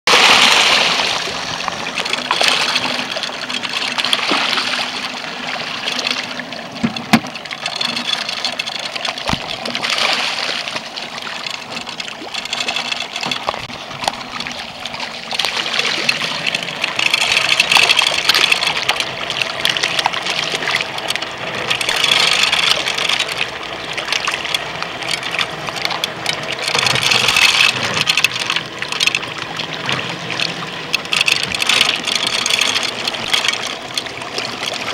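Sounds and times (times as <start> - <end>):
fish splashing in water: 0.1 - 34.9.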